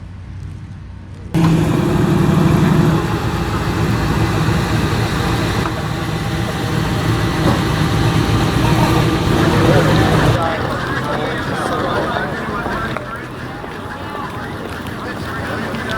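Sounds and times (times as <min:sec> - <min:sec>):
car engine rumbling loudly: 0:01.4 - 0:15.9
faint engine hum: 0:01.4 - 0:15.9.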